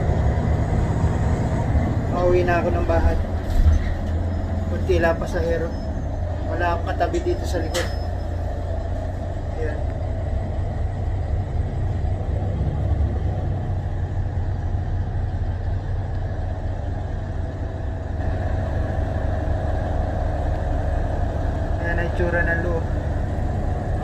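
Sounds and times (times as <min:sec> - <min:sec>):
bus engine low rumble: 0:00.0 - 0:24.0
engine high whine: 0:00.0 - 0:24.0.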